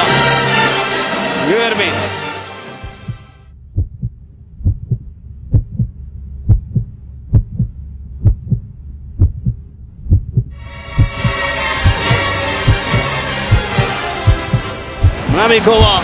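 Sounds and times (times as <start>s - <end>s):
heartbeat thumps: 2.8s - 16.0s.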